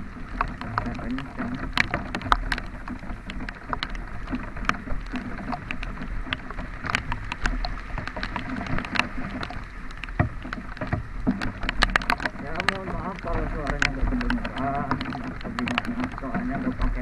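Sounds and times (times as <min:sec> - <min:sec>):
rain tapping on vehicle: 0:00.0 - 0:17.0
vehicle driving on rough road: 0:00.0 - 0:17.0.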